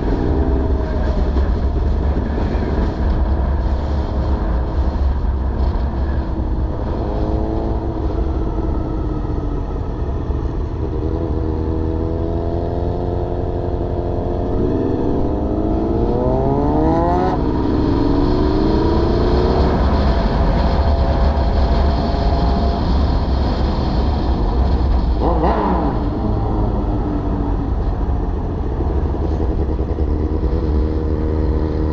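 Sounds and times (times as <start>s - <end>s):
motorcycle engine accelerating: 0.0s - 31.9s
wind rumble on microphone: 0.0s - 31.9s.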